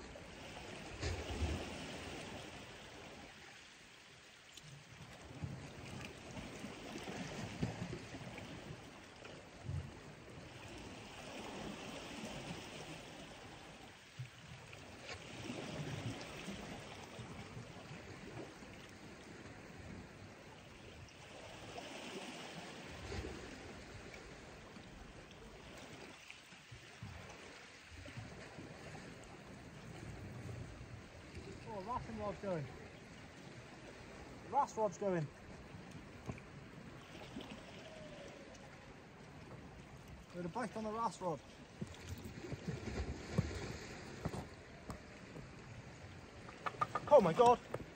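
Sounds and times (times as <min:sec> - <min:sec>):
small waves lapping on rocks: 0:00.0 - 0:47.9.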